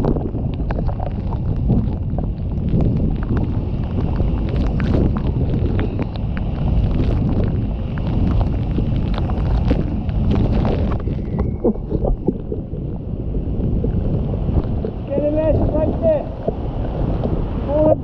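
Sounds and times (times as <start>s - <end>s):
scattered crackles: 0.0s - 18.0s
waterfall rumble: 0.0s - 18.0s
wind buffeting microphone: 0.0s - 18.0s.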